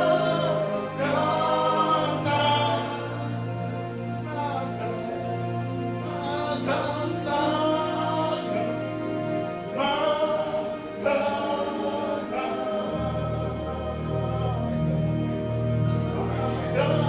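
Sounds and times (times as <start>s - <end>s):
sustained low chords: 0.0s - 17.0s
voices singing together: 0.0s - 17.0s.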